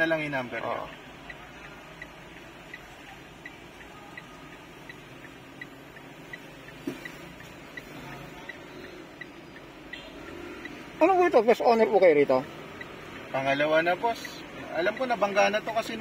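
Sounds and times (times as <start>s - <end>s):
high ticking: 0.0s - 16.0s.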